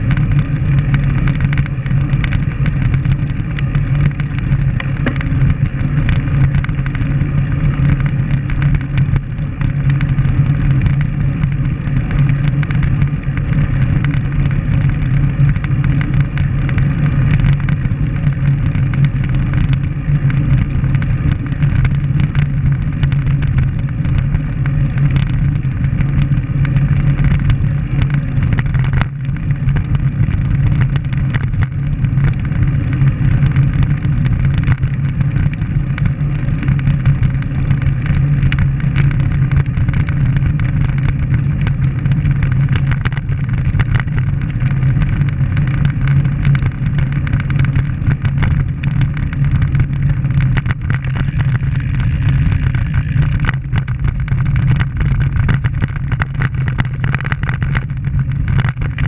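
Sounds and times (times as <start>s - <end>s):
road noise: 0.0s - 59.0s
wind rush on microphone: 0.0s - 59.0s.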